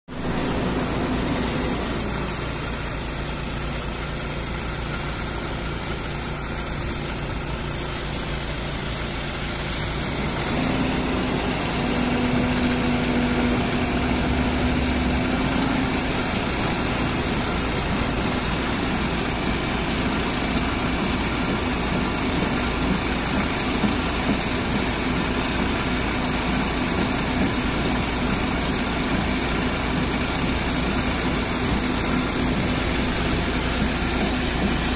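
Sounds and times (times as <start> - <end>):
engine running: 0.1 - 34.9
water jet spraying on metal: 0.1 - 34.9.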